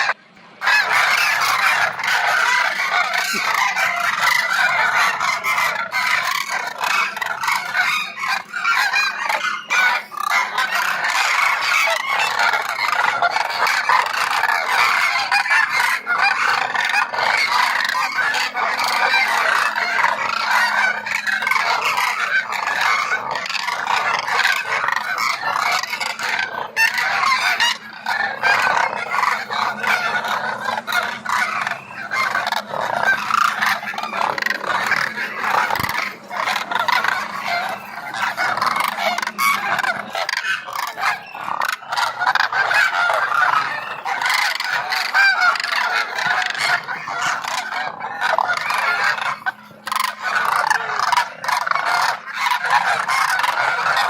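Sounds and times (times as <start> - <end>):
flock of birds calling: 0.0 - 54.0.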